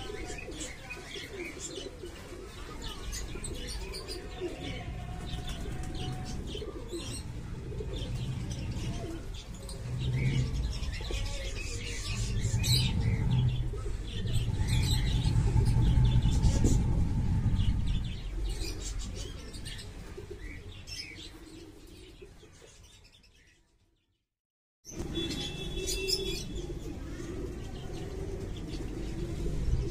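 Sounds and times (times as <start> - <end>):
pigeons cooing: 0.0 - 22.7, 25.2 - 29.9
small birds chirping: 0.0 - 24.1, 24.9 - 29.9.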